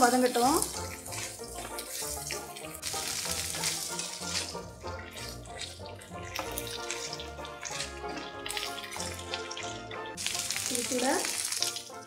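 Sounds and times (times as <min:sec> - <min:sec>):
spatula stirring: 0:00.0 - 0:10.8
peel sizzling in oil: 0:00.0 - 0:12.0.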